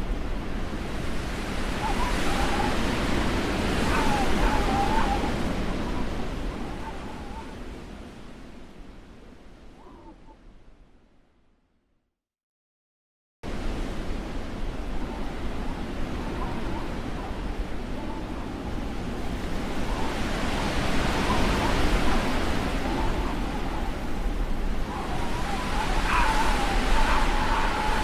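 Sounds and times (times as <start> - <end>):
blizzard wind blowing hard: 0.0 - 9.8, 13.5 - 28.0
thin wind whistles: 0.0 - 10.4, 13.5 - 28.0.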